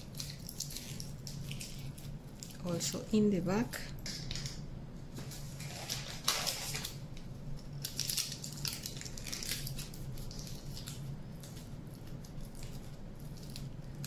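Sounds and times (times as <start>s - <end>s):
aluminium foil crinkling: 0.0s - 3.3s, 3.9s - 14.0s.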